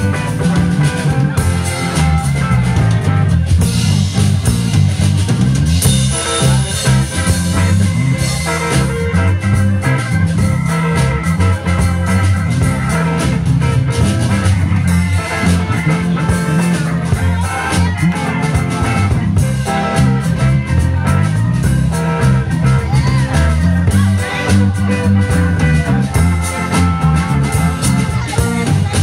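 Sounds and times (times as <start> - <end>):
live band playing blues-rock: 0.0 - 29.0.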